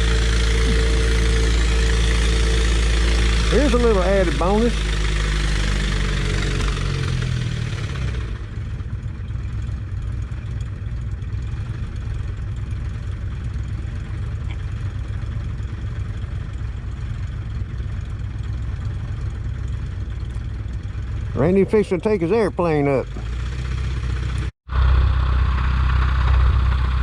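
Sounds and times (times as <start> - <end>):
motorcycle engine running: 0.0 - 27.0
propeller airplane engine idling: 0.0 - 27.0.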